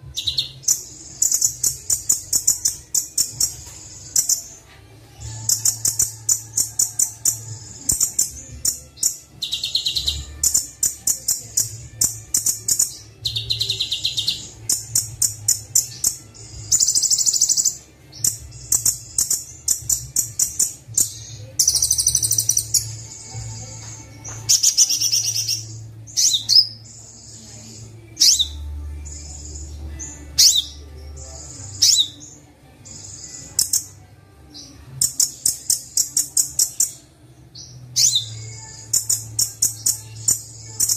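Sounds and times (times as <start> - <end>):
buzzy bird trills and chirps: 0.0 - 40.9.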